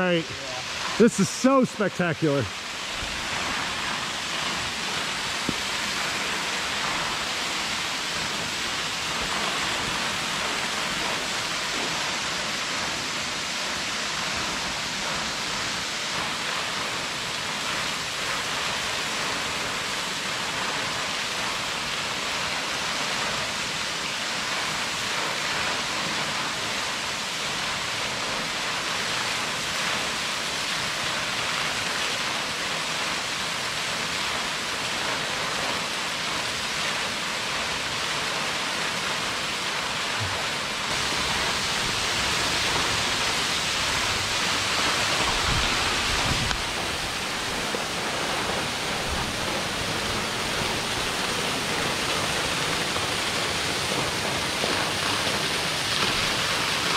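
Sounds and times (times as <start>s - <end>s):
waterfall splashing onto rocks: 0.0s - 56.9s.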